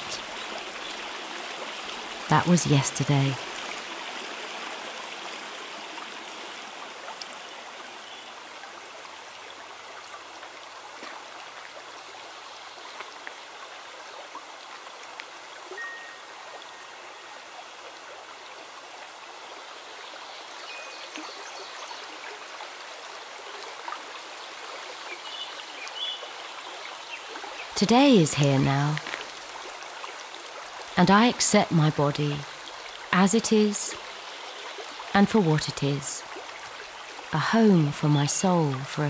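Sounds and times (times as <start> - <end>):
stream running over rocks: 0.0 - 39.0.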